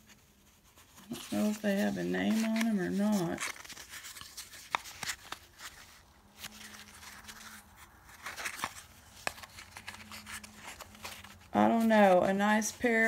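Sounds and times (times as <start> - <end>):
faint rustling of boxes: 0.0 - 13.0.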